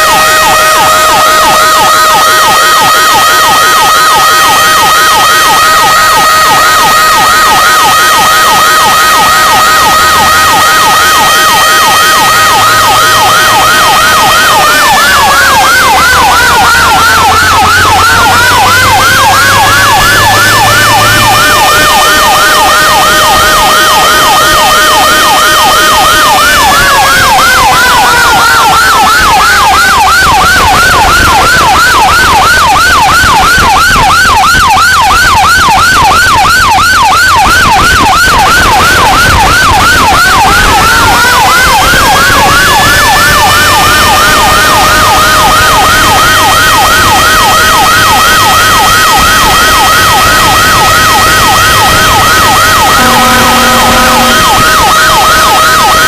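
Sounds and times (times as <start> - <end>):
wailing siren: 0.0 - 56.0
yelping siren: 0.0 - 56.0.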